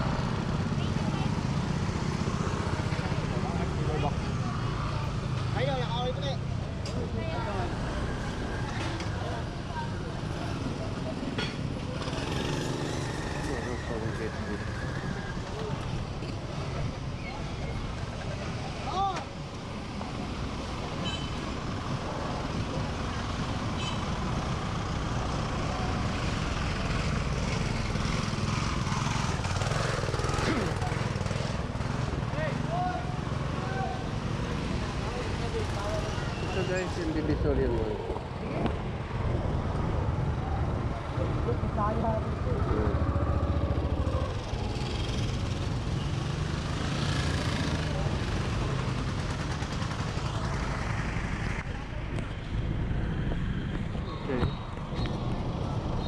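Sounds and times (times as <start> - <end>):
street traffic: 0.0 - 56.0
vehicle engines humming: 0.0 - 56.0.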